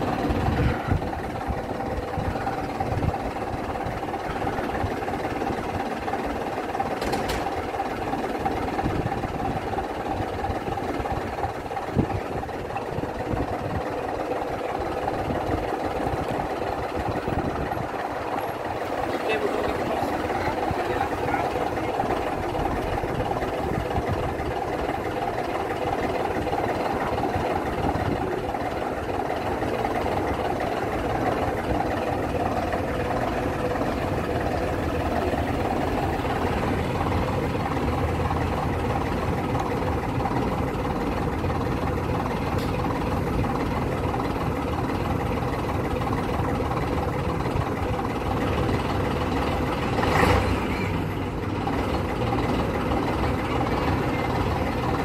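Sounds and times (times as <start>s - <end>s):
diesel bus engine idling: 0.0s - 55.0s.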